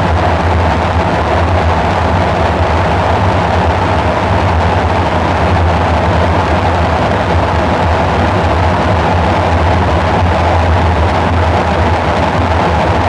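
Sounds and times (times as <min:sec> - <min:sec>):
dark synthesizer drone: 0:00.0 - 0:13.0.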